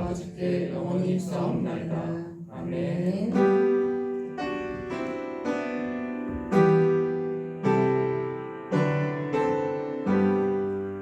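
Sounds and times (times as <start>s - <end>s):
slow keyboard chords: 0.0s - 11.0s.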